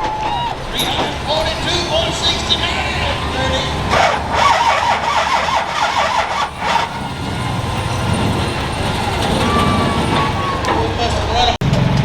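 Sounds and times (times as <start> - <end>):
turbo whine: 0.0 - 11.1
diesel truck engine at full load: 0.0 - 12.0.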